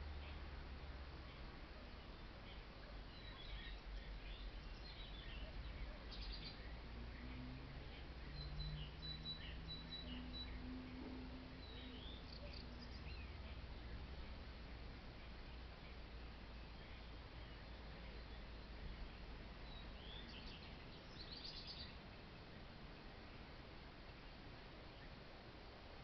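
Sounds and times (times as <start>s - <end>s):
small birds chirping: 0.0s - 25.8s.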